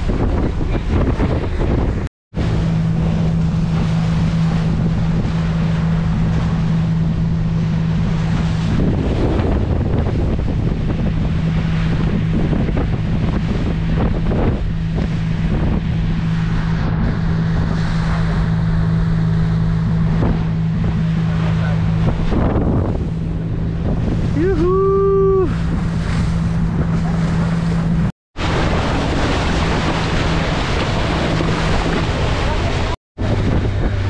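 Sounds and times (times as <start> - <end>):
motorboat engine drone: 0.0 - 34.0
water rushing along hull: 0.0 - 34.0
wind buffeting microphone: 0.0 - 34.0.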